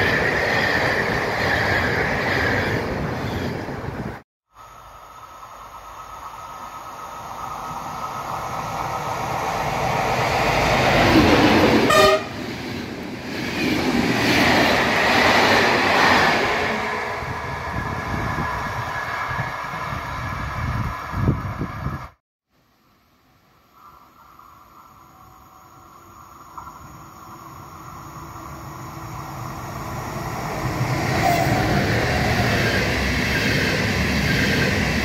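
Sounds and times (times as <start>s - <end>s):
train passing: 0.0s - 22.2s, 23.5s - 35.0s.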